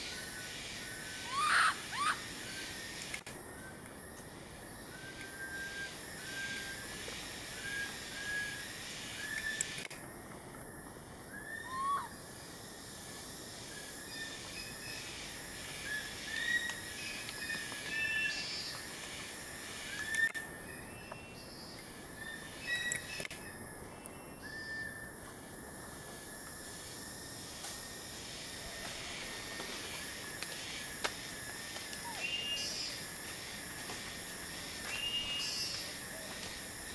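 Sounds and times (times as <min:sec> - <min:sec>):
outdoor hiss: 0:00.0 - 0:36.9.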